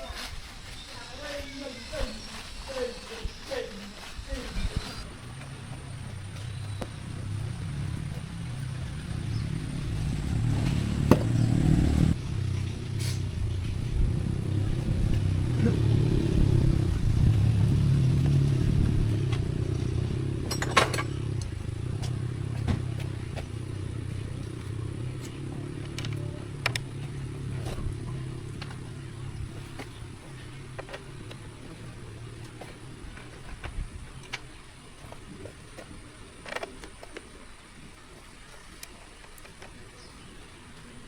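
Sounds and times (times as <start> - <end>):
engine running: 1.2 - 37.1.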